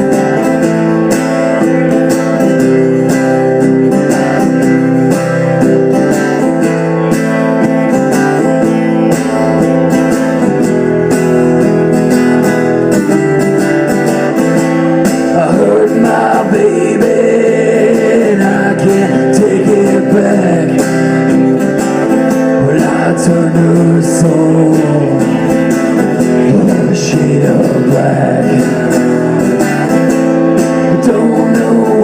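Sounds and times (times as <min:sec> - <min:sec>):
strummed guitar chords: 0:00.0 - 0:32.0
wavering lead guitar melody: 0:00.0 - 0:32.0.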